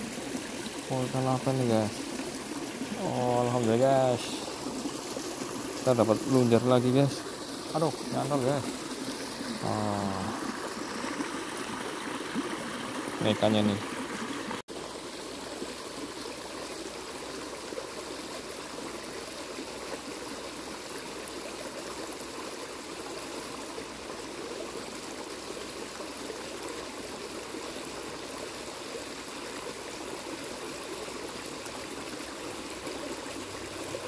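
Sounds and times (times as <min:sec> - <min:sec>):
creek water trickling: 0:00.0 - 0:34.0.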